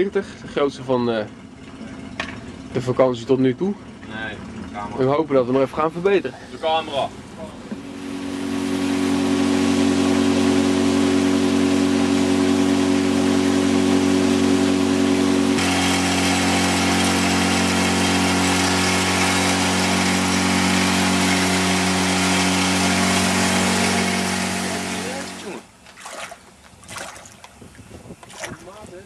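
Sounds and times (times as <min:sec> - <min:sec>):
outboard motor running: 0:00.0 - 0:28.9.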